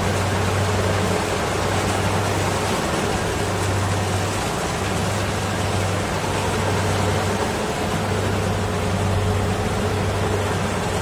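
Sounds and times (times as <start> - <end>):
combine harvester engine hum: 0.0 - 11.0.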